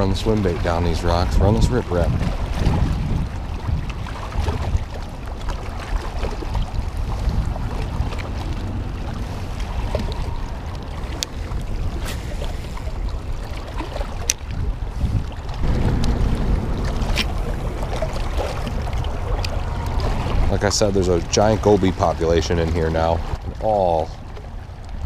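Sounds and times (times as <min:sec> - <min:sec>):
waves lapping on rocks: 0:00.0 - 0:25.0
wind buffeting microphone: 0:00.0 - 0:25.0.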